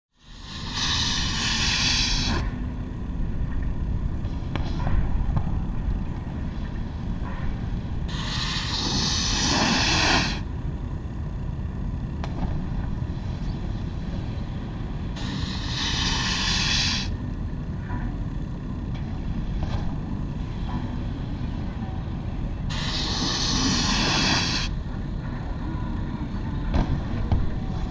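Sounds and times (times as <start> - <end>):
steady low rumble: 0.1 - 27.9.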